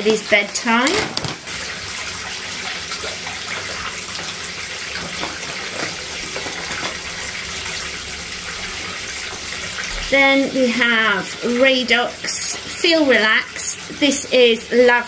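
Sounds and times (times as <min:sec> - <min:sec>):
tap running into bathtub: 0:00.0 - 0:13.2.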